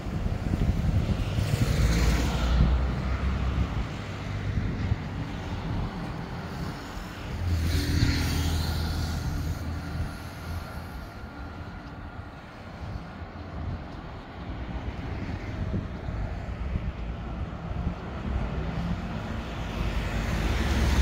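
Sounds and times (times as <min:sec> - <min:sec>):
street traffic: 0:00.0 - 0:21.0
car passing: 0:00.5 - 0:13.4, 0:14.4 - 0:21.0.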